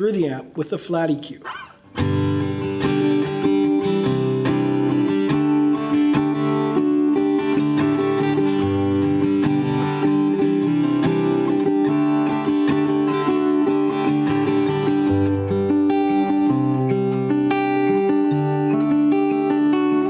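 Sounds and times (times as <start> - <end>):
acoustic guitar picked notes: 1.4 - 20.0.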